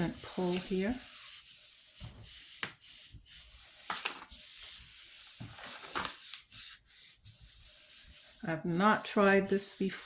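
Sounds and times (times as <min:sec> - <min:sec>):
paper rubbing dry swishing: 0:00.0 - 0:10.0.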